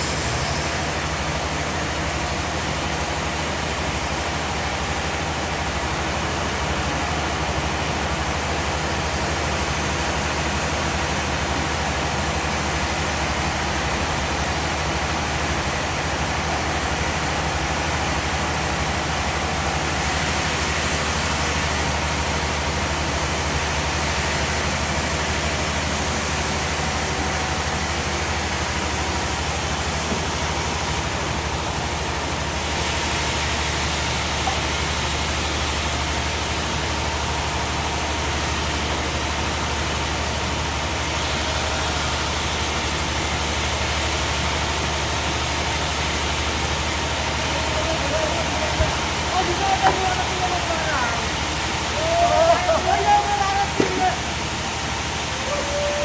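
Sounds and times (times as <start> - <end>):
machinery hiss: 0.0 - 56.0
sawmill machinery hum: 0.0 - 56.0.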